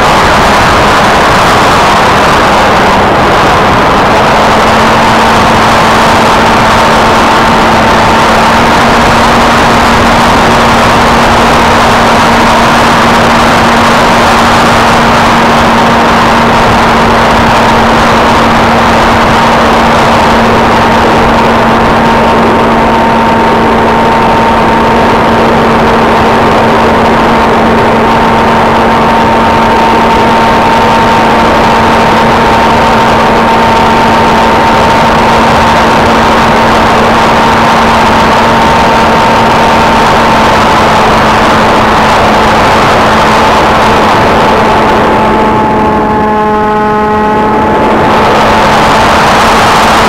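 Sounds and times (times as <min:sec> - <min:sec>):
electric motor and propeller hum: 0:00.0 - 0:50.0
rush of air: 0:00.0 - 0:50.0.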